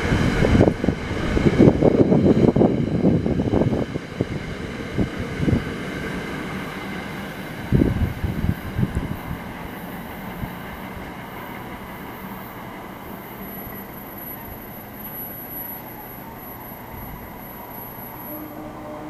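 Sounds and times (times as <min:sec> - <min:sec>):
train rail rumble: 0:00.0 - 0:19.0.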